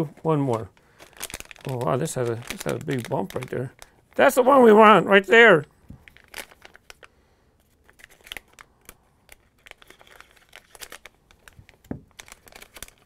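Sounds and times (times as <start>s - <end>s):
plastic bag crinkling: 0.4s - 5.0s, 5.8s - 13.0s.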